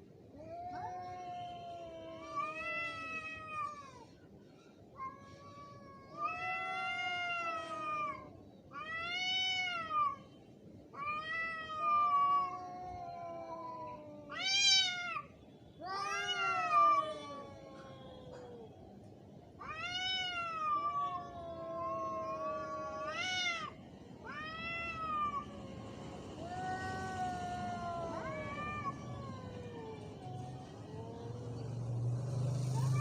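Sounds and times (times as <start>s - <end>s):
cats yowling: 0.4s - 4.2s, 5.0s - 10.3s, 10.9s - 19.0s, 19.6s - 33.0s.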